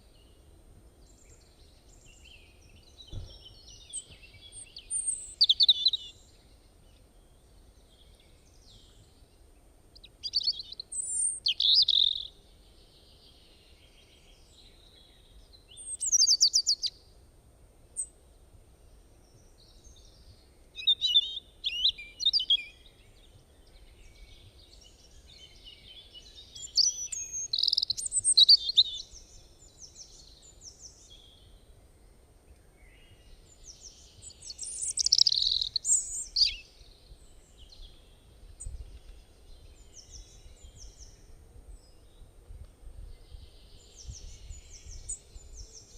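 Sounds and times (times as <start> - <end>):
songbirds singing: 0.0 - 17.2, 17.9 - 45.9.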